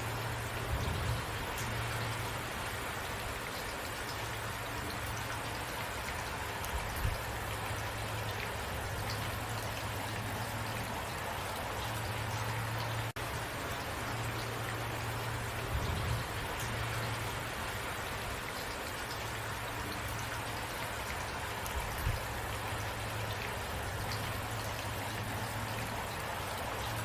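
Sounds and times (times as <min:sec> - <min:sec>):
steady rain patter: 0:00.0 - 0:27.0.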